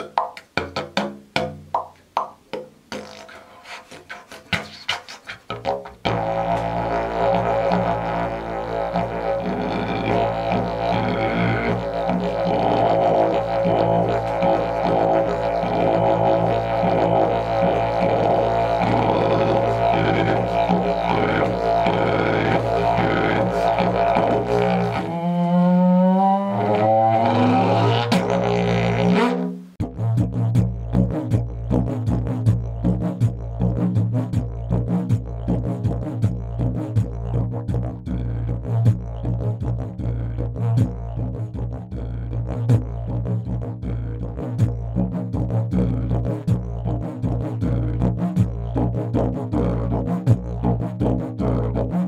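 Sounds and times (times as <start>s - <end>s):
higher sliding didgeridoo tones: 0.0s - 52.0s
didgeridoo drone: 3.0s - 52.0s.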